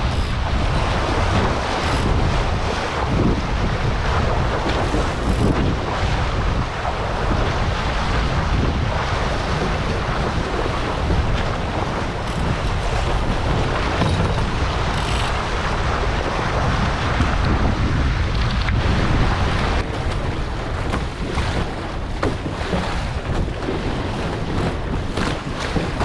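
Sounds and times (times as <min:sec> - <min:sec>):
water rushing along hulls: 0:00.0 - 0:26.0
wind buffeting microphone: 0:00.0 - 0:26.0.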